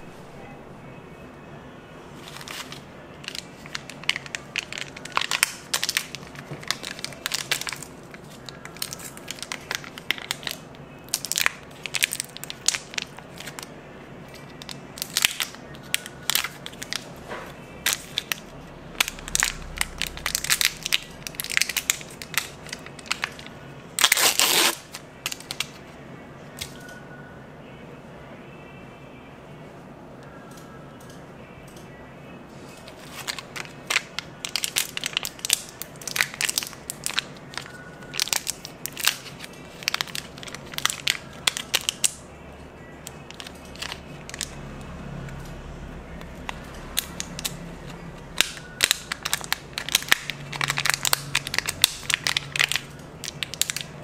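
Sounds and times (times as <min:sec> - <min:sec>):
candy crunching and crackling: 0:02.1 - 0:25.9, 0:32.5 - 0:42.3, 0:43.0 - 0:54.0.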